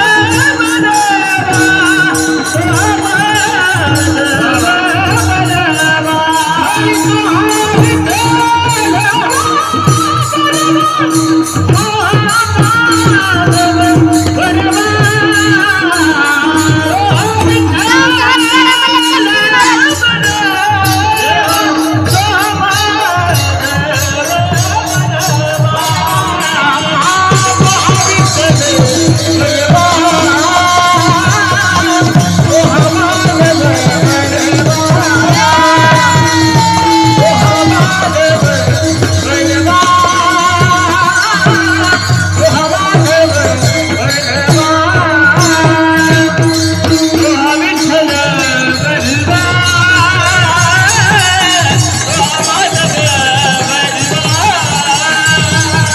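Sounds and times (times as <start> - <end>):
devotional singing melody: 0.0 - 55.9
hand cymbals jingling: 0.0 - 55.9.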